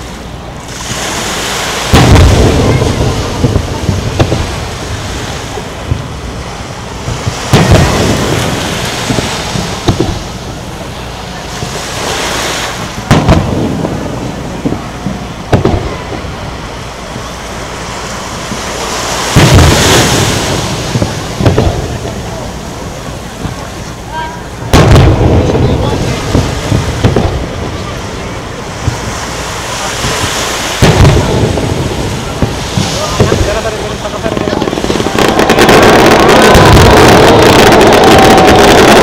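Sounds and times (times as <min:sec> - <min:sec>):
firework shells booming: 0:00.6 - 0:10.9, 0:12.7 - 0:24.0, 0:24.6 - 0:39.0.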